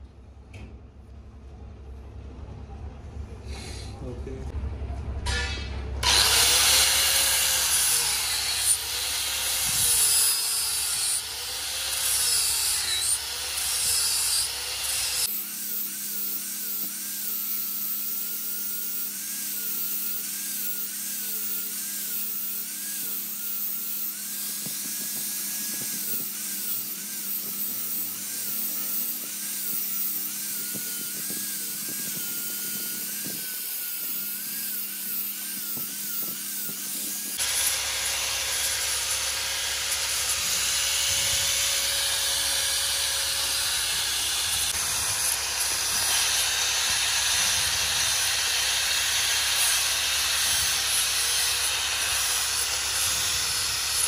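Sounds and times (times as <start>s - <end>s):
power tool whining: 5.3s - 54.0s.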